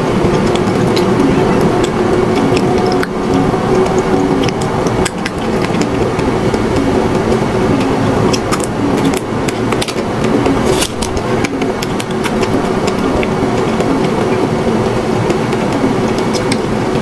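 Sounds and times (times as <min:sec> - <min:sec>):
loud steady drone: 0:00.0 - 0:17.0.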